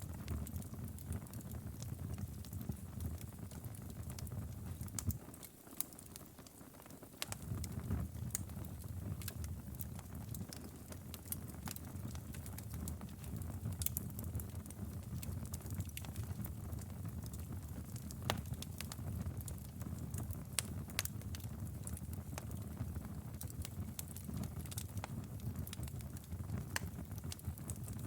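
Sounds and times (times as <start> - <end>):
fire pops and snaps: 0.0 - 28.0
low rumble of burning: 0.0 - 28.0
wood fire crackling: 0.0 - 28.0.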